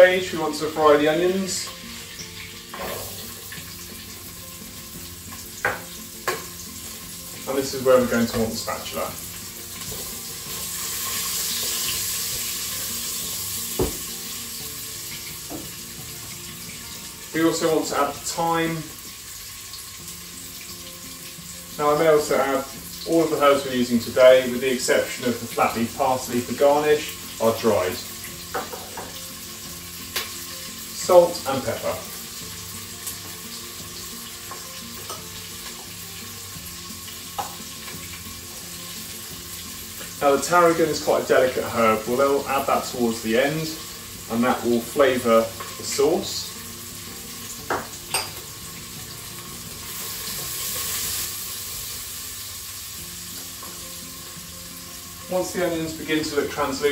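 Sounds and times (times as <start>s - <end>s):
onions sizzling in a pot: 0.0s - 56.9s.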